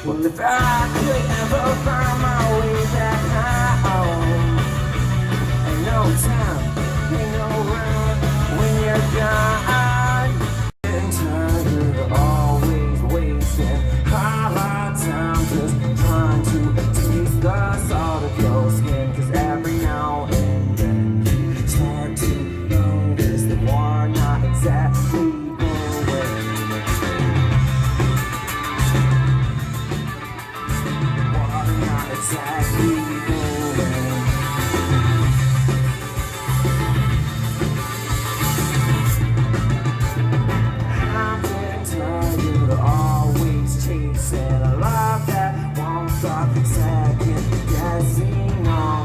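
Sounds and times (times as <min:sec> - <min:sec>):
drums: 0:00.0 - 0:49.0
electric guitar lead with bends: 0:00.0 - 0:49.0
live rock band playing: 0:00.0 - 0:49.0
steady bass: 0:00.0 - 0:49.0.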